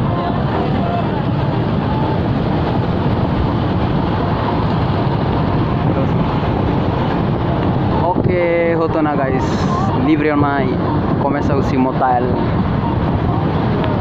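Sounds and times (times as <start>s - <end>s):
minibus engine and road noise: 0.0s - 14.0s.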